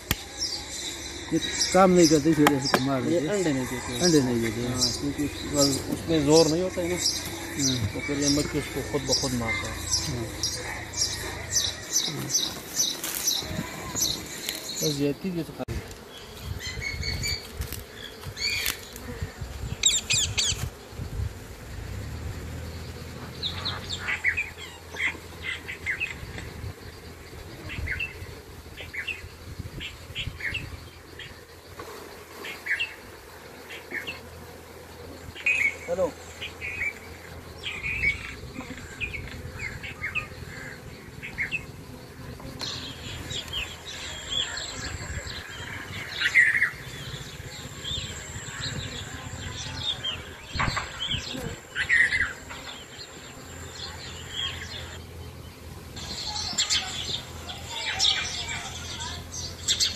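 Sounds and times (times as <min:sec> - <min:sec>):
honey bees humming: 0:00.0 - 0:59.9
small birds chirping: 0:00.0 - 0:59.9.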